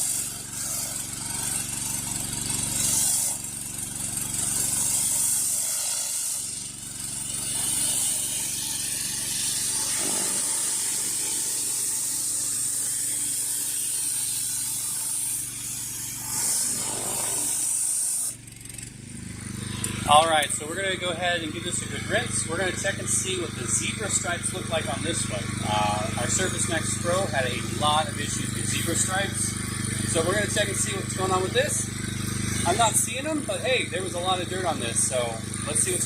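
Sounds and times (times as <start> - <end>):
high-pressure water hissing: 0.0 - 18.4, 22.1 - 36.0
pressure washer engine drone: 0.0 - 36.0.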